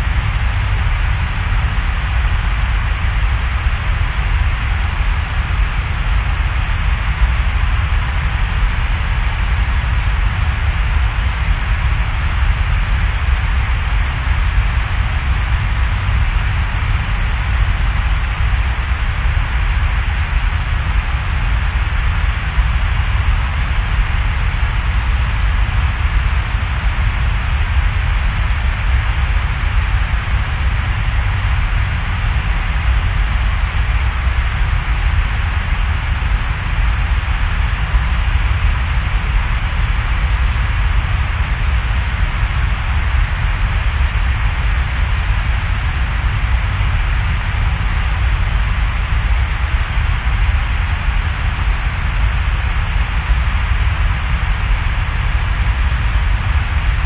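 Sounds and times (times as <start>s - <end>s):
rain-like noise hiss: 0.0s - 57.0s.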